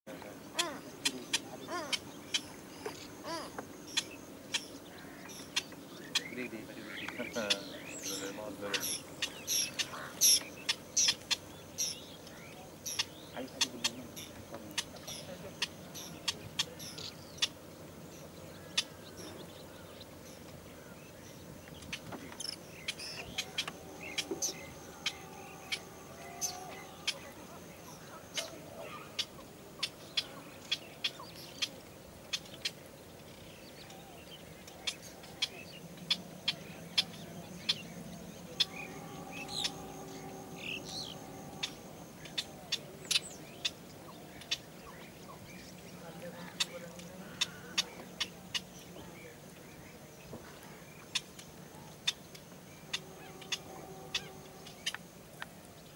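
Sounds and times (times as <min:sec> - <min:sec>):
birds chirping: 0:00.1 - 0:55.9
faint steady hum: 0:00.1 - 0:55.9.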